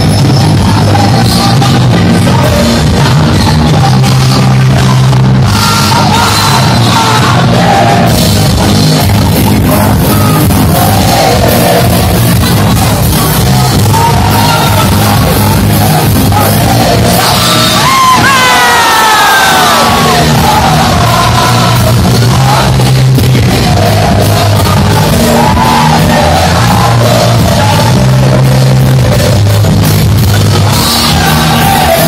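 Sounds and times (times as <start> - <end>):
bass guitar: 0.0 - 32.0
drum kit: 0.0 - 32.0
electric guitars: 0.0 - 32.0
person singing: 0.0 - 32.0.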